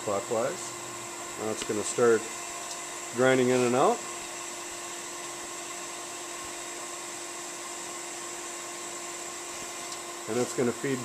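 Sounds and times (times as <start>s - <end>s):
grinder wheel humming and whining: 0.0s - 11.0s.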